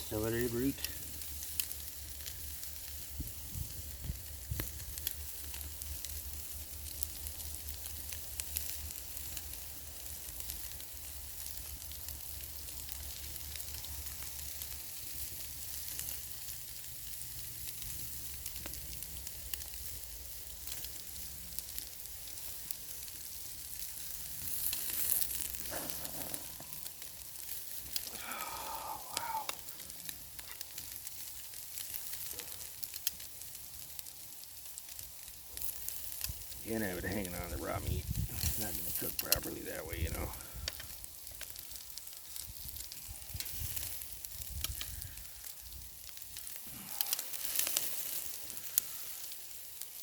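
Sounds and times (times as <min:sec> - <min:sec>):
meat sizzling on a grill: 0:00.0 - 0:50.0.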